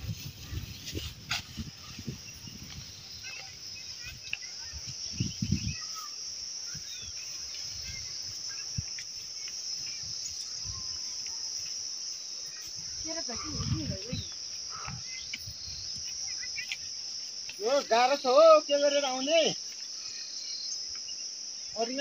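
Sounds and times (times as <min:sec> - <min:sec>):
high-pitched insect chirring: 0:00.1 - 0:22.0.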